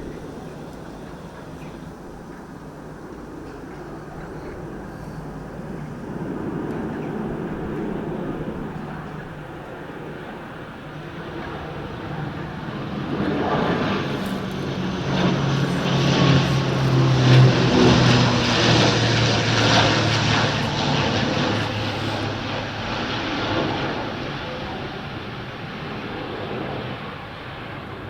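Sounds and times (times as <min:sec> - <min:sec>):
turboprop aircraft passing: 0:00.0 - 0:28.0.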